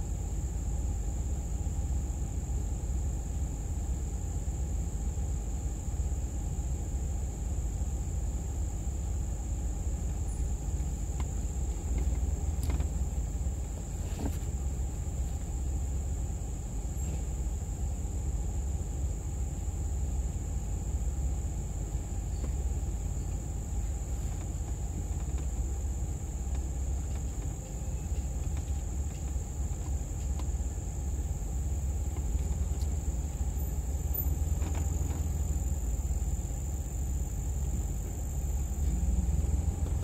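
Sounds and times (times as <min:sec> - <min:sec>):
insects droning: 0:00.0 - 0:40.0
vehicle engine rumbling: 0:00.0 - 0:40.0.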